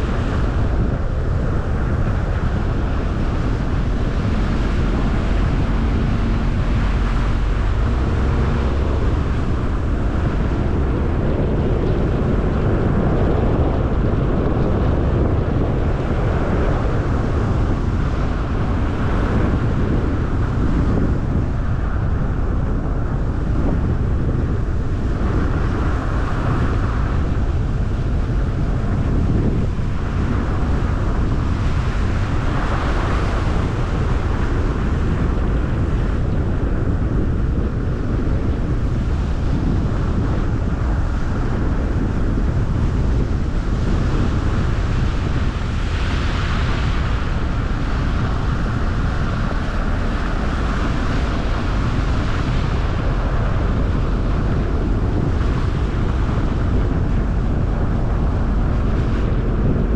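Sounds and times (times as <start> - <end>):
road and tyre noise: 0.0 - 59.9
wind buffeting microphone: 0.0 - 59.9.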